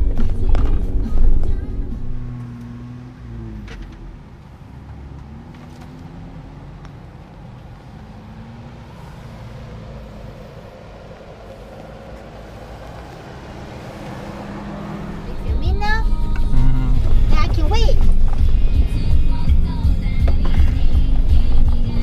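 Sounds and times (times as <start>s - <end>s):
off-road engine crawling: 0.0s - 22.0s.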